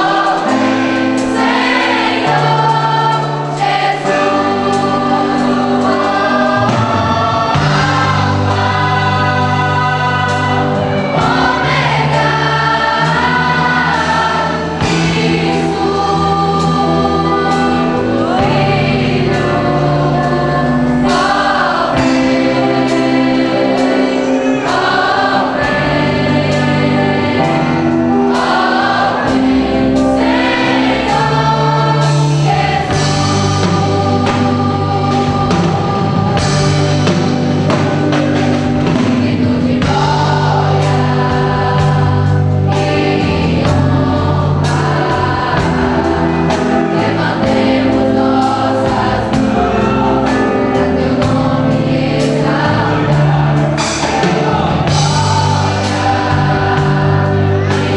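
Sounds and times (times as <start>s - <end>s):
choir singing gospel song: 0.0s - 57.9s.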